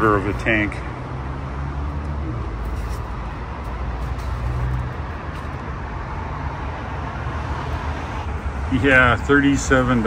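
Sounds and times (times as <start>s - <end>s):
fuel pump hum and rushing: 0.0s - 10.0s.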